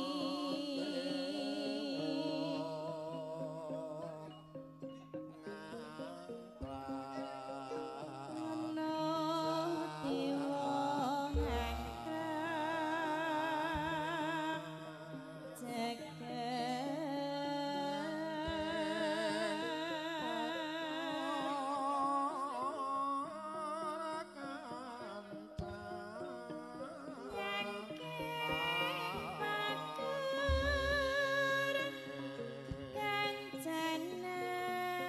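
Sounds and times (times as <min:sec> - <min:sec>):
woman singing: 0:00.0 - 0:04.4, 0:05.1 - 0:35.0
gamelan music: 0:00.0 - 0:35.0.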